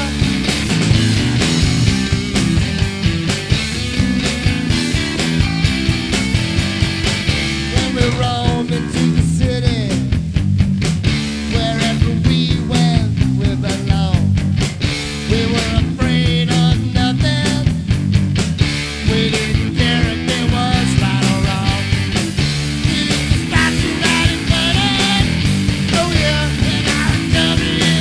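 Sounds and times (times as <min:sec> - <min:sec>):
rock music with guitar: 0:00.0 - 0:28.0.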